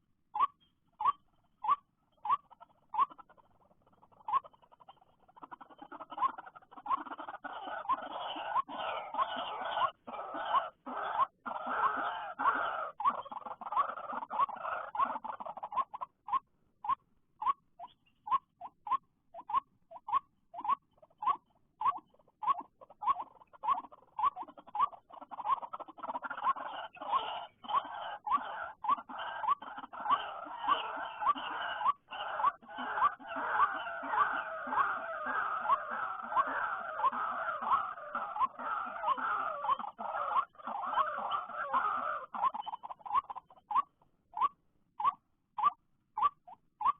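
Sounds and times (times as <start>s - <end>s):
bird chattering: 0.4s - 46.9s.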